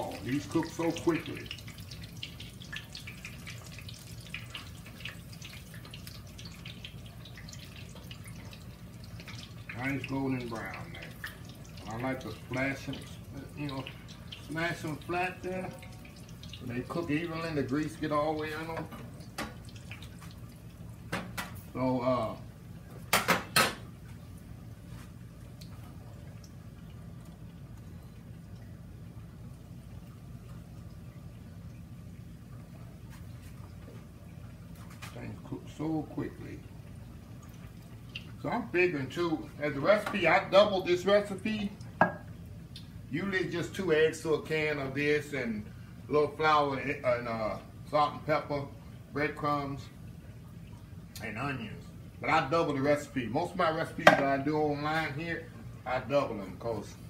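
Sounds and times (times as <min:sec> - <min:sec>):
oil sizzling and popping: 0:00.0 - 0:45.6, 0:49.8 - 0:55.7
low steady hum: 0:00.0 - 0:57.0.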